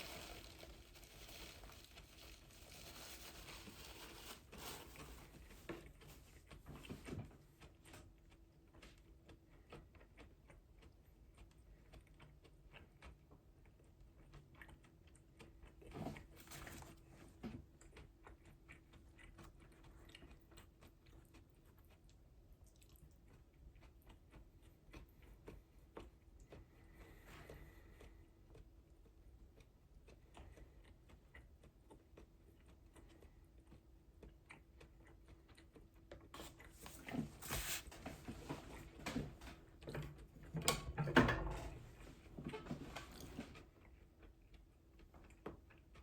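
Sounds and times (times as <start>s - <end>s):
close-up chewing and munching: 0.0s - 40.9s, 41.7s - 46.0s.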